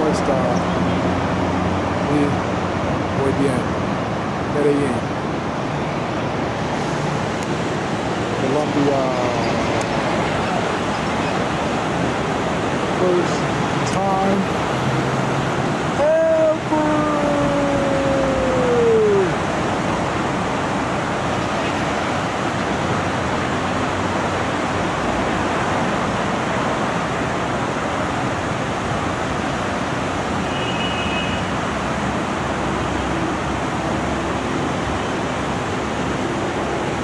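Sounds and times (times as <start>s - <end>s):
steady rushing noise: 0.0s - 37.0s.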